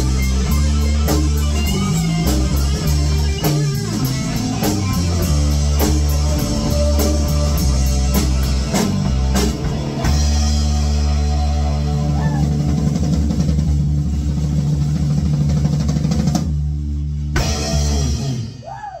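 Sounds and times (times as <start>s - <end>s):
busy drumming: 0.0s - 18.7s
rock band playing: 0.0s - 18.8s.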